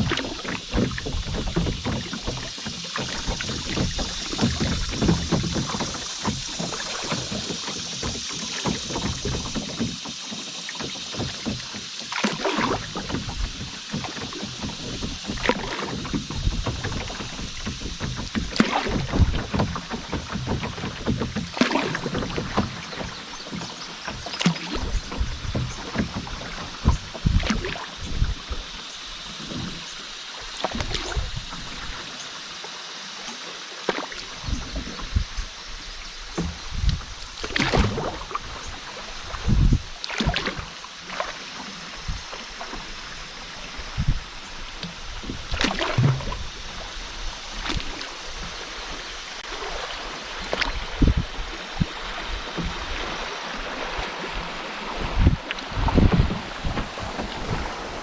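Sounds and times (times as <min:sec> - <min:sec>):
paddle strokes in water: 0:00.0 - 0:58.0
water rippling and splashing: 0:00.0 - 0:58.0.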